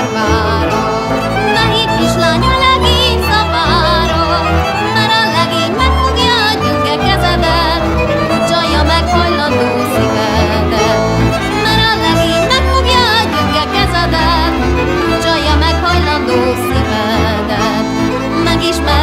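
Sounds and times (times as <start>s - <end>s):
folk band music: 0.0s - 19.0s
pulsing bass: 0.0s - 19.0s
violin with vibrato: 0.0s - 19.0s.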